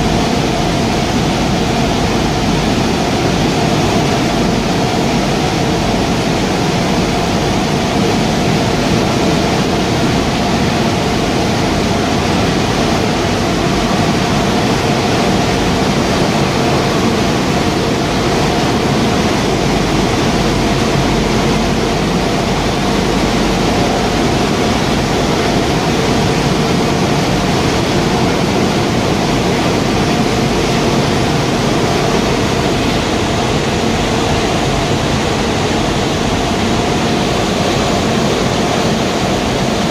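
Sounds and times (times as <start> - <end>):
industrial machinery running: 0.0 - 39.9.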